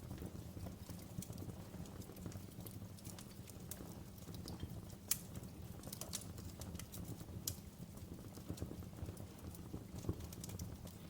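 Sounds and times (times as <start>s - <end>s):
fire crackling and popping: 0.0s - 11.0s
low rumble of flame: 0.0s - 11.0s.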